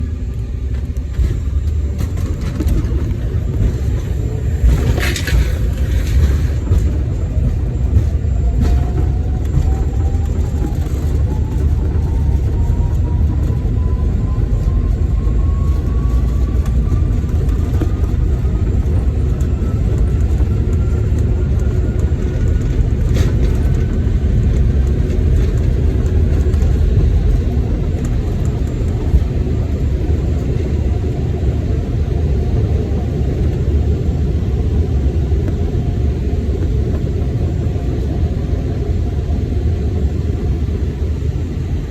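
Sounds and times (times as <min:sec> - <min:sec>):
jet engine rumble and whine: 0:00.0 - 0:41.9.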